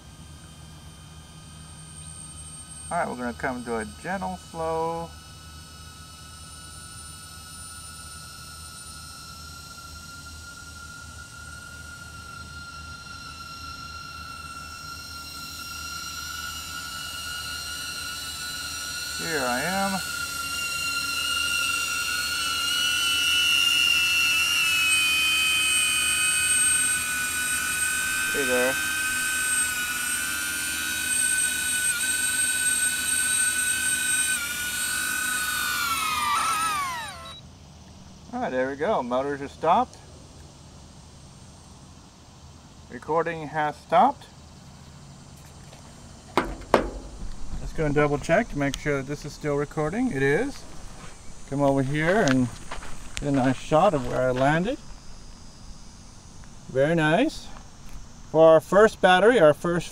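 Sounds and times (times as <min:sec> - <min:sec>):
drone propellers whining: 0:00.0 - 0:38.5, 0:40.8 - 0:59.9.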